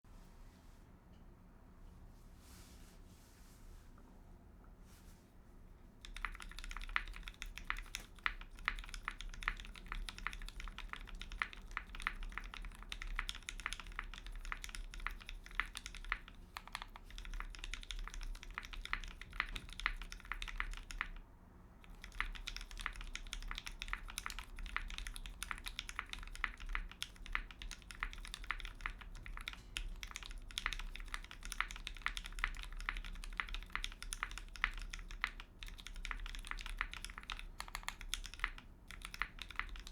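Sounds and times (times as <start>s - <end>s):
mechanical keyboard typing: 6.0s - 21.2s, 21.8s - 39.9s.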